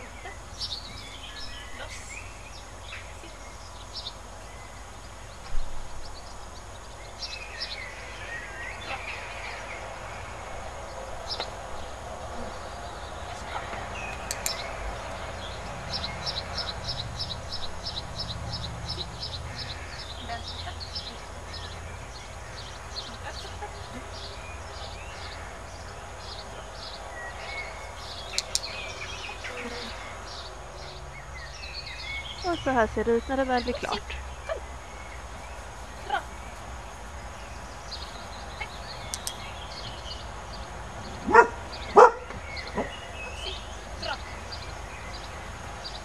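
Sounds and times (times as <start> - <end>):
birds chirping and calling: 0.0 - 46.0.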